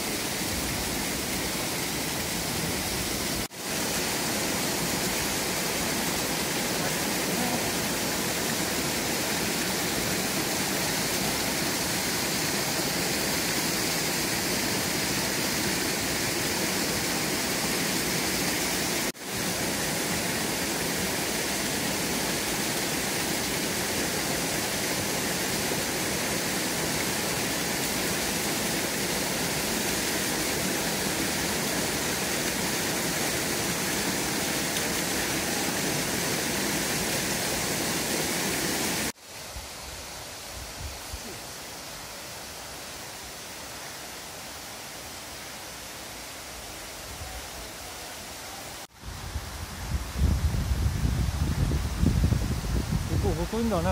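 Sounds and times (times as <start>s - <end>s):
waterfall rushing: 0.0s - 49.2s, 51.9s - 53.9s.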